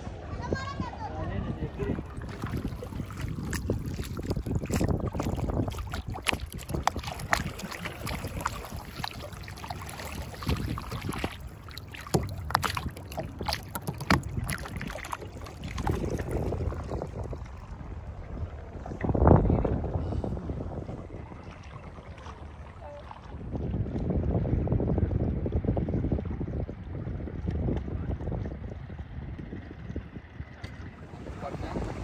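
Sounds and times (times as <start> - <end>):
river water splashing along hull: 0.0 - 32.0
wind on microphone: 0.0 - 32.0.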